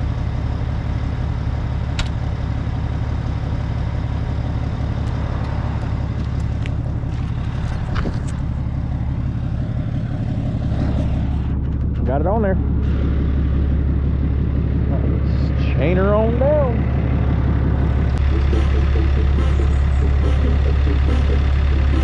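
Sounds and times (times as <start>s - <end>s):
skid steer diesel engine running: 0.0s - 22.0s.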